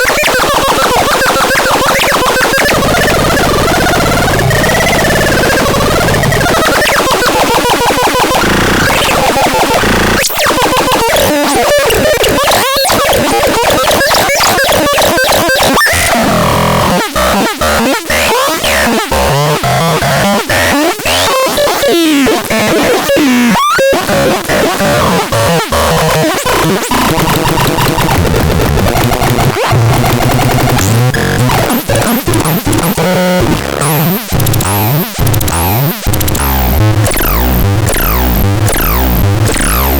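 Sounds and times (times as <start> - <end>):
fast stuttering electronic pulses: 0.0 - 21.6, 22.5 - 39.9
harsh chaotic synthesizer tones: 0.0 - 39.9.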